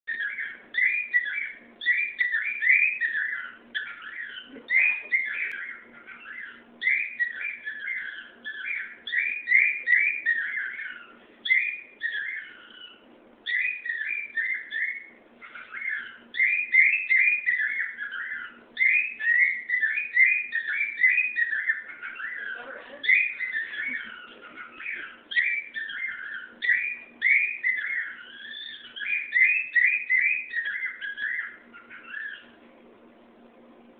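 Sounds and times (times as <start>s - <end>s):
cockatiel whistling: 0.1s - 32.6s.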